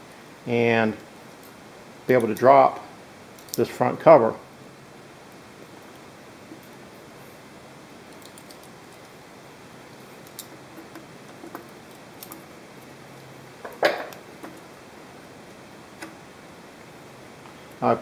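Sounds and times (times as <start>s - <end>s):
camera static hiss: 0.0s - 18.0s.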